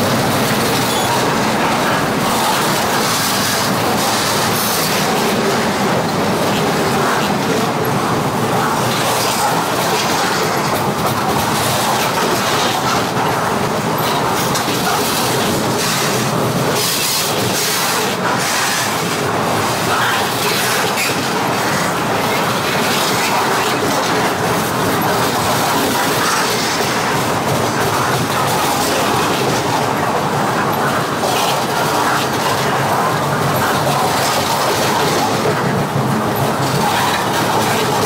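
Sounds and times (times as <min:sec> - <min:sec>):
train wheels clicking over rail joints: 0:00.0 - 0:38.0.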